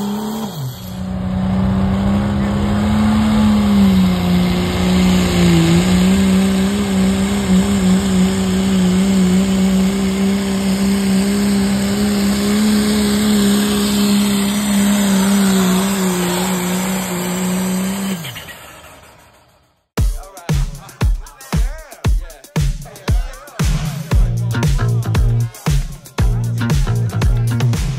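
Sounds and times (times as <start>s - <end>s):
diesel engine at full throttle: 0.0s - 19.5s, 24.0s - 27.9s.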